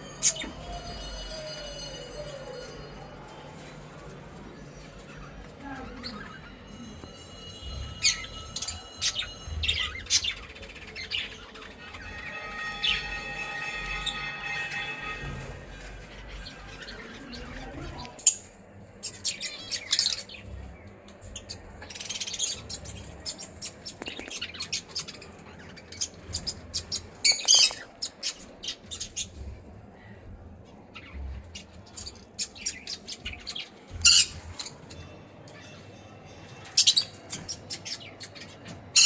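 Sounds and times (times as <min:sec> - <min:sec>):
parrots chirping and squawking: 0:00.0 - 0:03.8, 0:04.6 - 0:39.0.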